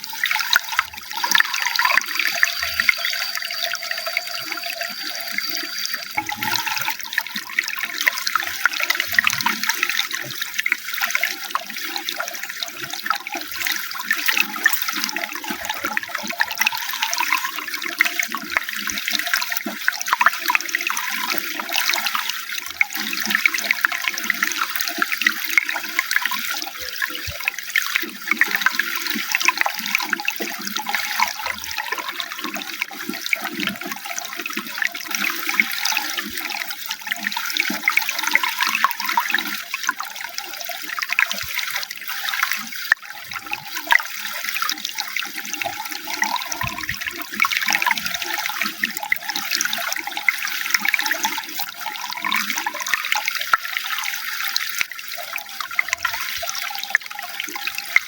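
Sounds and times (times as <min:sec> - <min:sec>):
running water splashing: 0:00.0 - 0:58.0.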